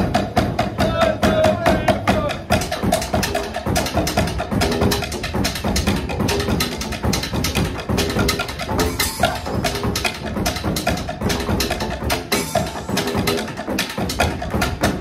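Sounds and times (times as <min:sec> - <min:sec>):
drumming on plastic barrels and pipes: 0:00.0 - 0:15.0.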